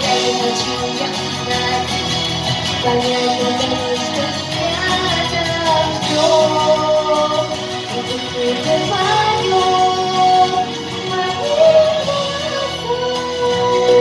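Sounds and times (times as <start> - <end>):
pop backing track: 0.0 - 14.0.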